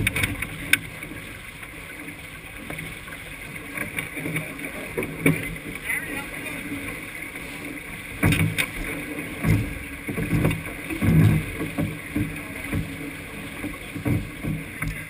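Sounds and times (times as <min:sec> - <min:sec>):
hull thumping on waves: 0:00.0 - 0:15.0
water rushing along a hull: 0:00.0 - 0:15.0.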